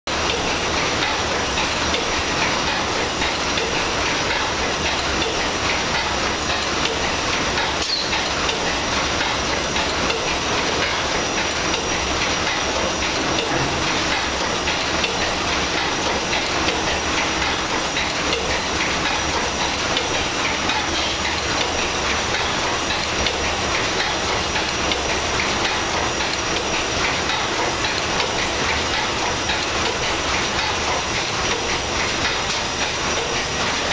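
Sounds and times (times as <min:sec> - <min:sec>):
steam engine running: 0:00.1 - 0:33.9.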